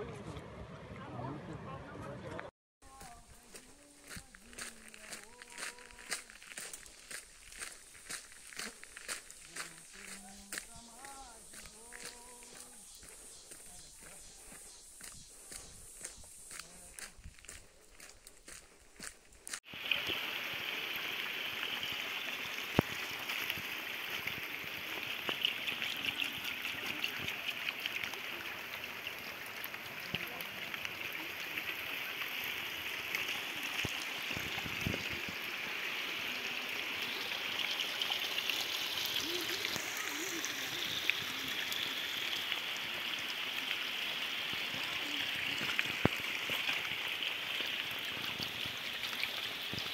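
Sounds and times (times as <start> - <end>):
water pouring onto rocks: 3.3 - 14.1, 16.5 - 49.9.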